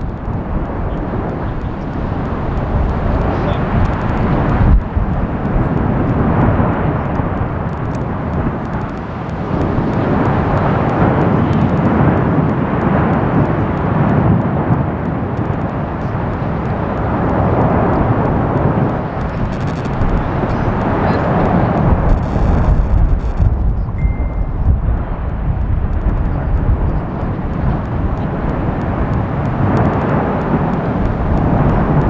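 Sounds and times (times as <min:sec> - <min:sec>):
volcanic fissure rumbling: 0:00.0 - 0:32.0
wind buffeting microphone: 0:00.0 - 0:32.0.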